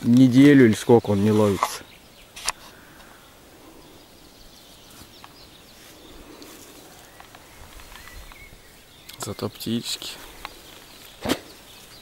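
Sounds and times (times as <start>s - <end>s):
low steady hiss: 0.0s - 12.0s
faint bird chirps: 1.7s - 12.0s.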